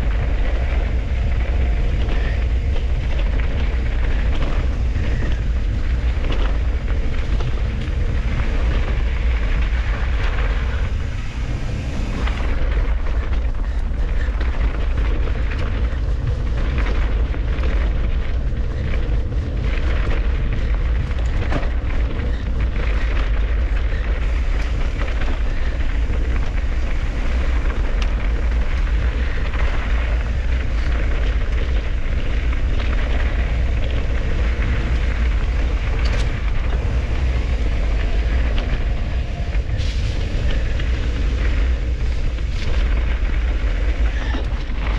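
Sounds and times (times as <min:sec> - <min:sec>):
bike rattles and knocks: 0:00.0 - 0:44.9
bike tyre noise: 0:00.0 - 0:44.9
wind buffeting microphone: 0:00.0 - 0:44.9.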